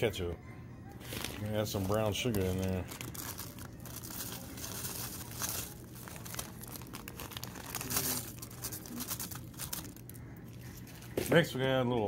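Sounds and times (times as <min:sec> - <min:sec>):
plastic bag crinkling: 0:01.0 - 0:11.4.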